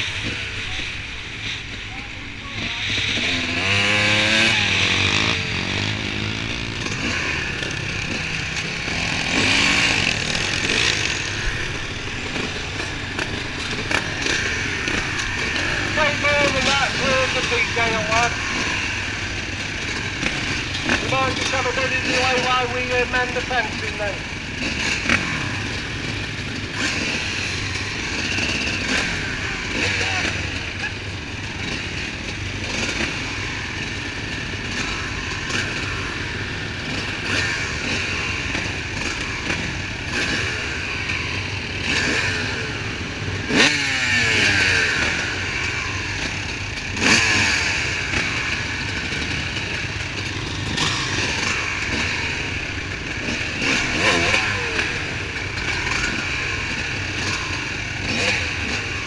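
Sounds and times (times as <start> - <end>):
engine throttle revs: 0.0 - 59.0
motocross bike engines idling: 0.0 - 59.0.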